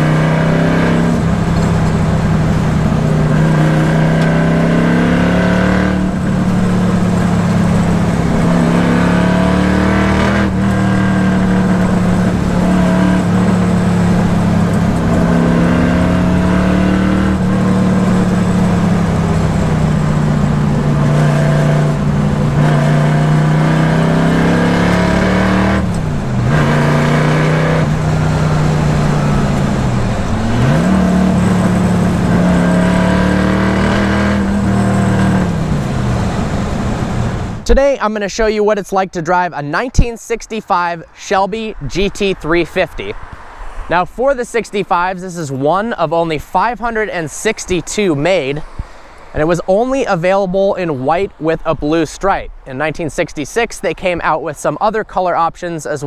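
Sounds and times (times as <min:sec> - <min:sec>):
loud car engine running: 0:00.0 - 0:37.7, 0:41.6 - 0:50.0.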